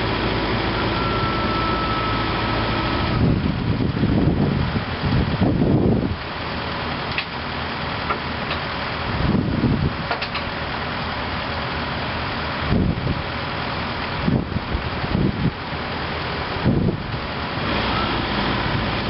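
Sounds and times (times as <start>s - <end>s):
diesel machinery engine running: 0.0s - 19.0s
low rumbles: 0.0s - 19.0s.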